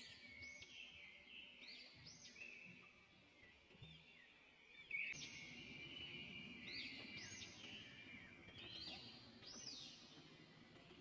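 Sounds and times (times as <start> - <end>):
faint whistled birdsong: 0.0 - 11.0
low steady background hiss: 0.0 - 11.0.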